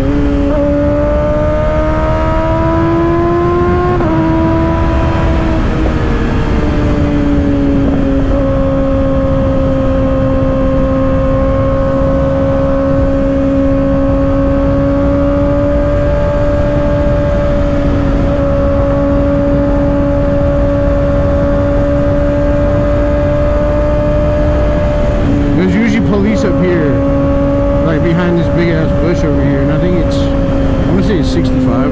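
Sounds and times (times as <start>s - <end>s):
motorcycle engine cruising: 0.0s - 31.9s
wind rushing over microphone: 0.0s - 31.9s.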